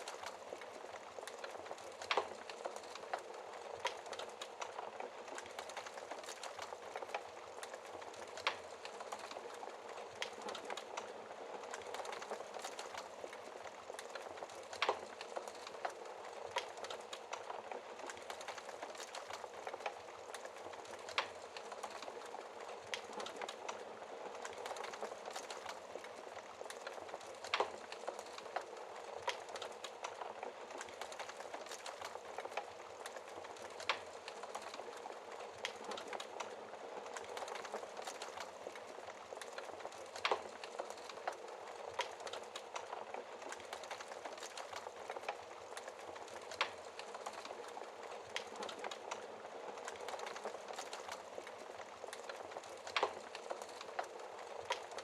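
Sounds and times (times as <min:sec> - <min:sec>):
fire popping: 0:00.0 - 0:55.0
fireplace fire crackling: 0:00.0 - 0:55.0
flames hissing: 0:00.0 - 0:55.0.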